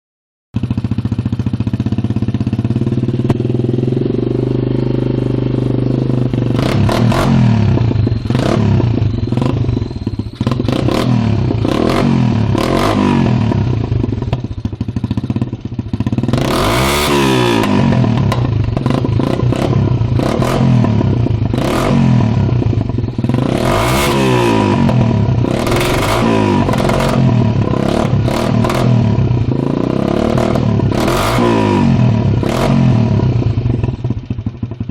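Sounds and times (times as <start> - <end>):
motorbike engine revving: 0.6 - 34.9.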